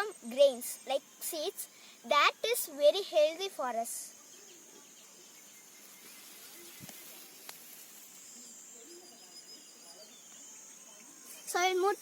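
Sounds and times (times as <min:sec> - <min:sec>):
faint distant calls: 0:00.0 - 0:12.0
steady high hiss: 0:00.0 - 0:12.0.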